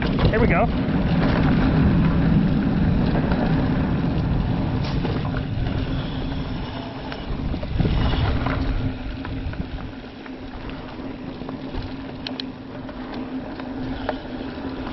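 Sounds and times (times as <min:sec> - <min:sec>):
bike tyres rumbling on dirt: 0:00.0 - 0:14.9
wind rushing over microphone: 0:00.0 - 0:14.9.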